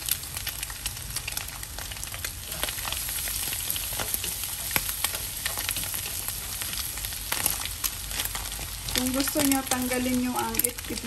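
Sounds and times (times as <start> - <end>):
garlic sizzling in hot oil: 0.0 - 11.0
spatula stirring in a wok: 0.0 - 11.0.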